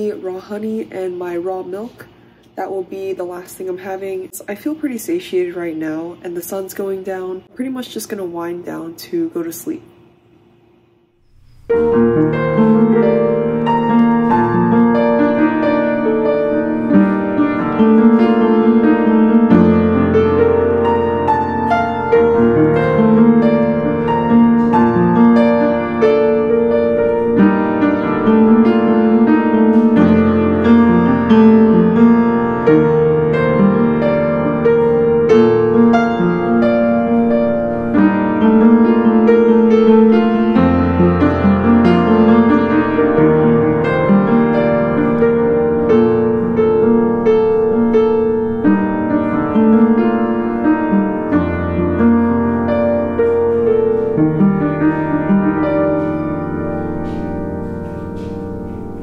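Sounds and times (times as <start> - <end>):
solo piano playing: 11.1 - 59.0.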